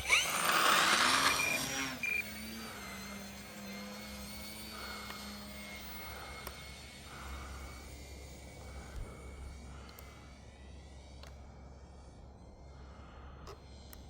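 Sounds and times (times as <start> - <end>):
electric rc plane motor whining: 0.0 - 14.0.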